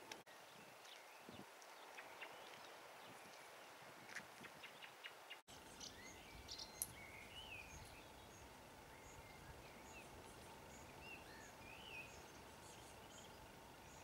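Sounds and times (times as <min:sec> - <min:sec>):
faint birdsong: 0:00.0 - 0:14.0
quiet outdoor hush: 0:00.0 - 0:14.0.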